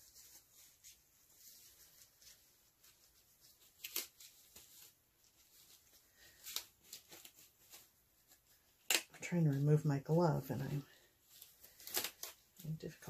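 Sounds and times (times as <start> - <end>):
faint rustles: 0.0 - 13.0.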